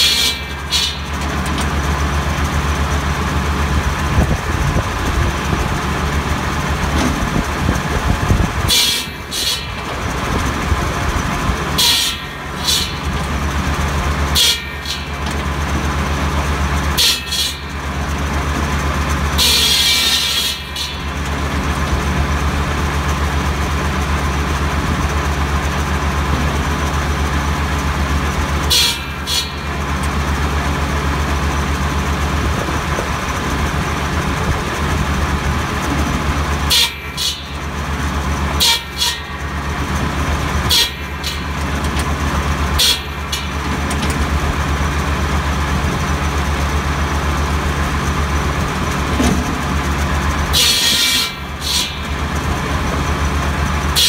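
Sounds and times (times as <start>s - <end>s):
circular saw cutting branches: 0.0s - 54.0s
diesel engine humming: 0.0s - 54.0s.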